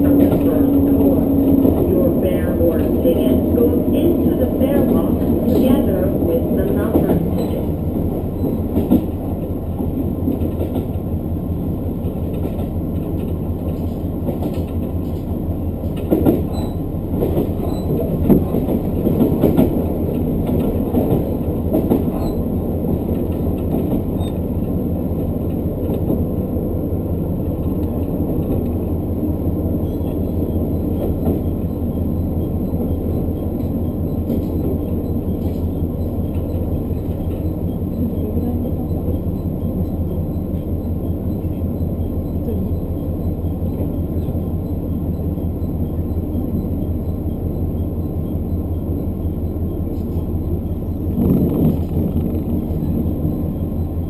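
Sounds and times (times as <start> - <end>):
train engine and wheels rumbling: 0.0 - 54.0.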